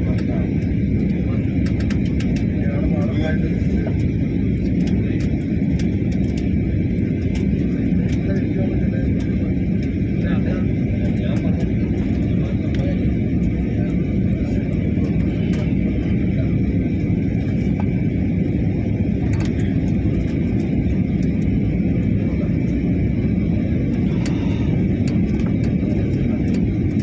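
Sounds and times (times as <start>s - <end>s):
airliner cabin rumble: 0.0s - 27.0s
thin steady whine: 0.0s - 27.0s.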